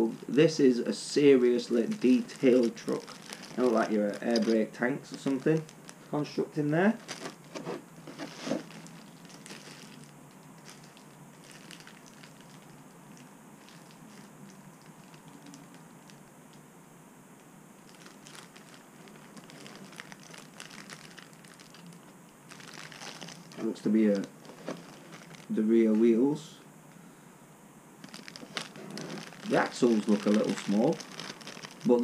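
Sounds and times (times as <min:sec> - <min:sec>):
plastic packaging crinkling: 0:00.0 - 0:16.6, 0:17.8 - 0:26.2, 0:28.0 - 0:32.0.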